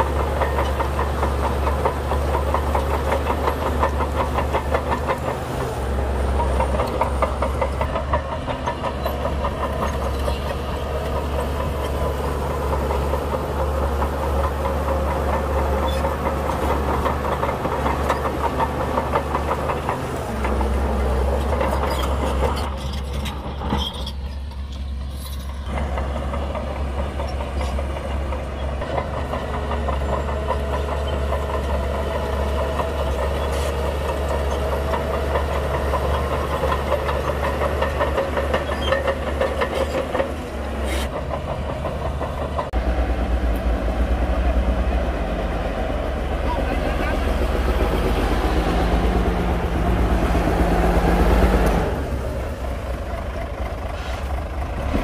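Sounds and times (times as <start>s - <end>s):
metallic track clatter: 0.0s - 44.6s
bulldozer diesel engine running: 0.0s - 55.0s.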